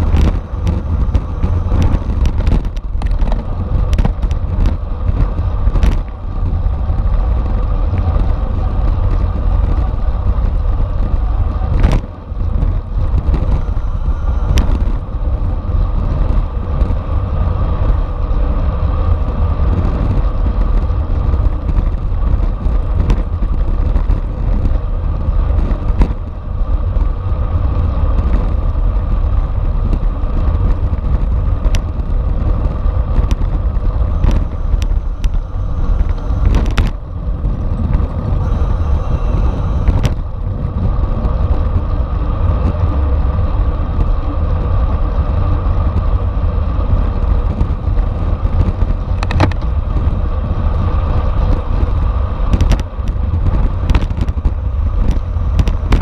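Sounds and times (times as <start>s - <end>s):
road rumble: 0.0s - 56.0s
steady hum: 0.0s - 56.0s
wind buffeting microphone: 0.0s - 56.0s.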